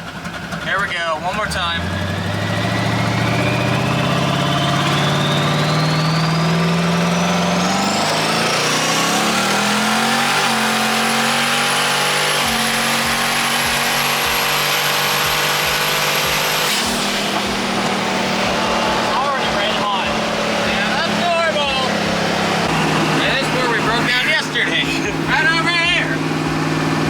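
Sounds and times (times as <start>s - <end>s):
engine accelerating hard: 0.0s - 27.0s
turbo whine rising: 1.8s - 27.0s.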